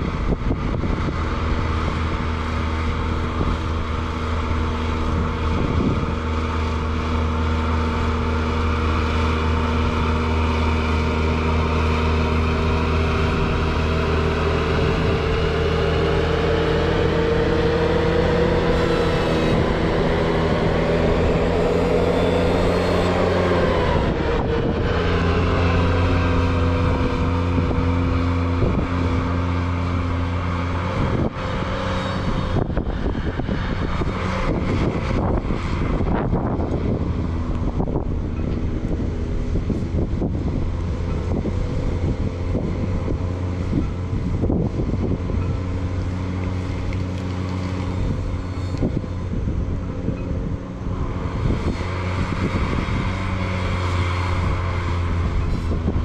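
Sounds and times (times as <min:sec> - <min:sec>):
high whine: 0:00.0 - 0:56.0
snowblower running: 0:00.0 - 0:56.0.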